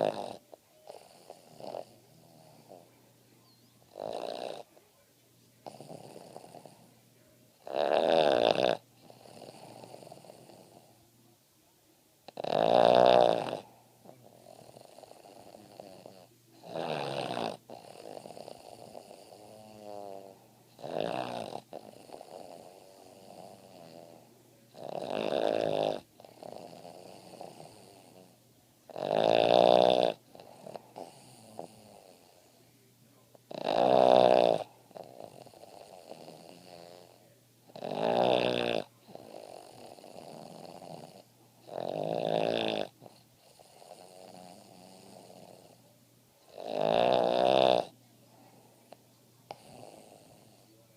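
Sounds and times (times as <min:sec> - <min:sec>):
dog snoring: 0:00.0 - 0:04.9, 0:05.6 - 0:07.0, 0:07.6 - 0:11.0, 0:12.3 - 0:32.6, 0:33.4 - 0:50.8.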